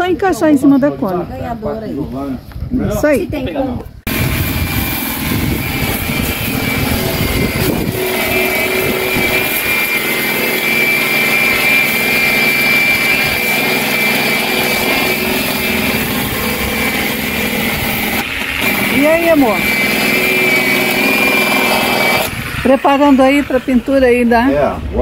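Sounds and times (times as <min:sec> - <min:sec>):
angle grinder sanding steel: 0:04.1 - 0:24.8.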